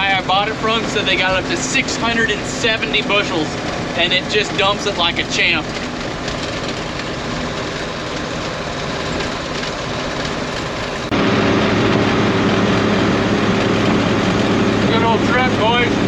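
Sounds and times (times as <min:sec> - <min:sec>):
truck engine rumble: 0:00.0 - 0:16.0.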